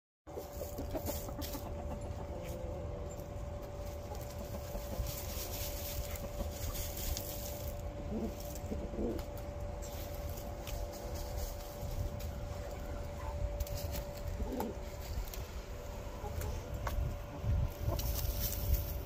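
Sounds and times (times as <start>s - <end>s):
constant hum: 0.3s - 19.0s
hens clucking softly: 0.3s - 19.0s.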